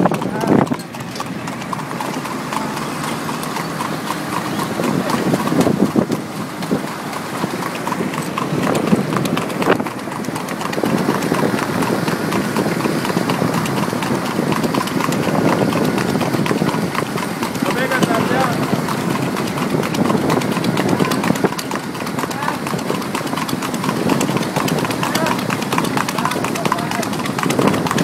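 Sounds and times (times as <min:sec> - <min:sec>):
hooves clip-clopping on pavement: 0:00.0 - 0:28.0
road noise: 0:00.0 - 0:28.0.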